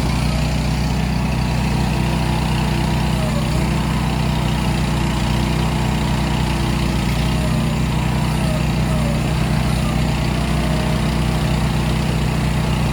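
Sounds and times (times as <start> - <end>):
excavator engine running: 0.0 - 12.9.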